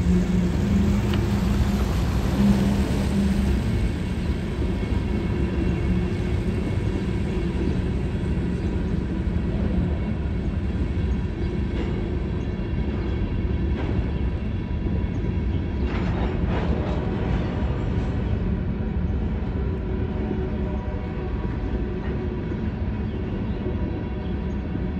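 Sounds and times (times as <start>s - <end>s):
train wheels rumbling on rails: 0.0s - 24.9s.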